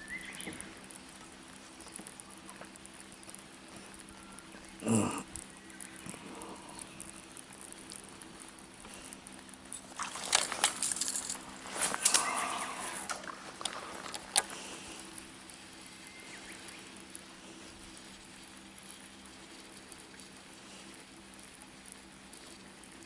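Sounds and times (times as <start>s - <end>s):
electric trolling motor humming: 0.0s - 23.0s.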